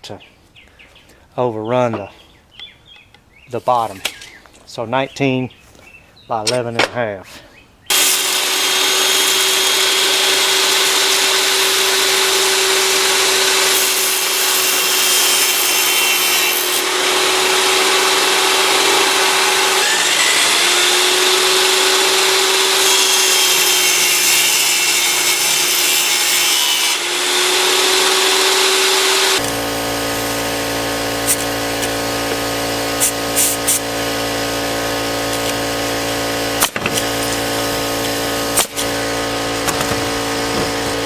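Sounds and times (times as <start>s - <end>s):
electric saw motor whine: 7.9s - 41.0s
saw blade rasping through wood: 7.9s - 41.0s.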